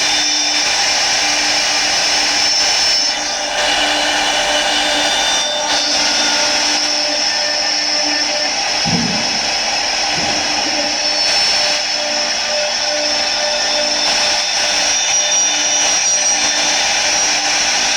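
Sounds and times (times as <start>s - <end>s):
lathe machine whine: 0.0s - 17.9s.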